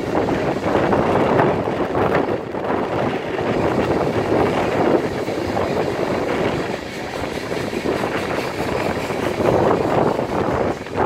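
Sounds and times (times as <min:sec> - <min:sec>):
freight train rumble: 0:00.0 - 0:11.0
steel wheels clattering on rail: 0:00.0 - 0:11.0.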